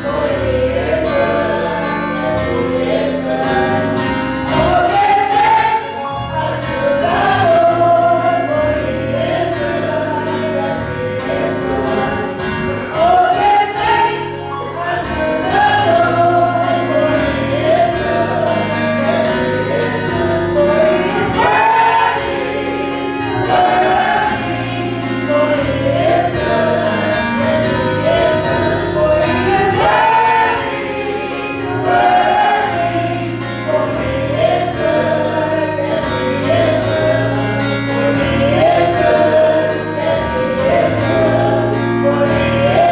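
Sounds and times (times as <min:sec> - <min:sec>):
gospel choir singing: 0:00.0 - 0:42.9
instrumental accompaniment: 0:00.0 - 0:42.9.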